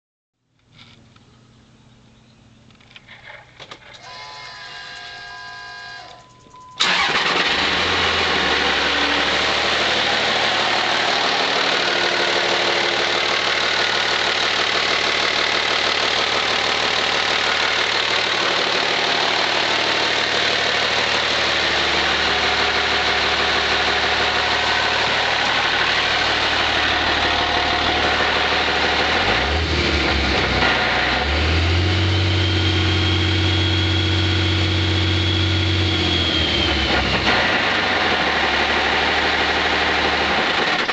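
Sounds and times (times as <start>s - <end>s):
diesel engine running: 6.0s - 40.9s.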